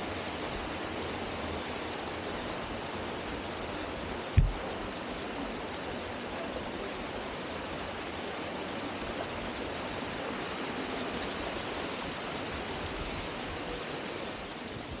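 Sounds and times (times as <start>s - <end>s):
waterfall and creek rushing: 0.0s - 15.0s.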